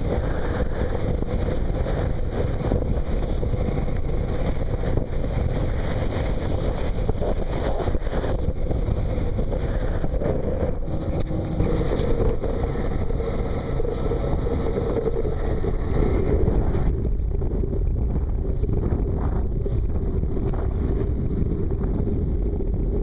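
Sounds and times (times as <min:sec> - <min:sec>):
outboard motor droning: 0:00.0 - 0:23.0
wind noise on microphone: 0:00.0 - 0:23.0.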